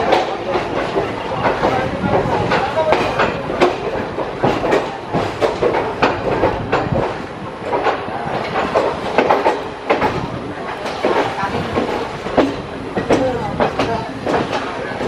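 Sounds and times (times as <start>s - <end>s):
rumble of moving coaches: 0.0s - 15.0s
train wheels clattering: 0.0s - 15.0s.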